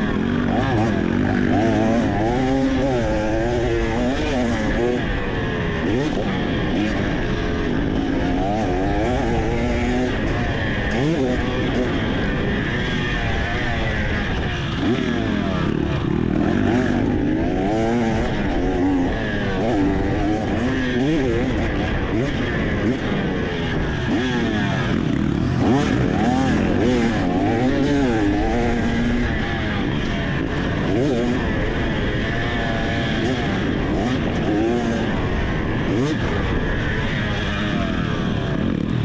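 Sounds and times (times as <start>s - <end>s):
two-stroke motorcycle engine revving: 0.0s - 39.0s
wind and road noise: 0.0s - 39.0s.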